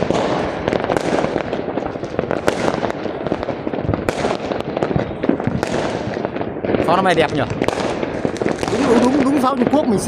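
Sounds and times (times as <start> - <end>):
fireworks crackling: 0.0 - 10.0
fireworks sharp bangs: 0.0 - 10.0.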